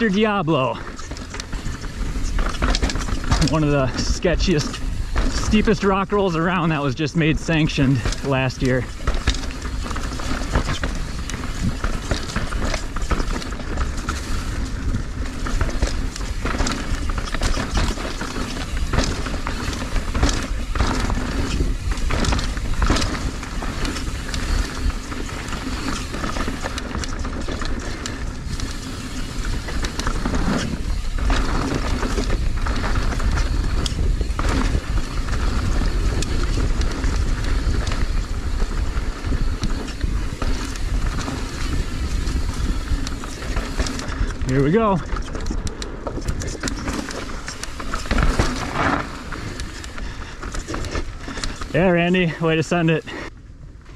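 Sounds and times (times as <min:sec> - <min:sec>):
tyres rolling on dirt: 0:00.0 - 0:53.3
bike rattling and clunking: 0:00.0 - 0:53.9.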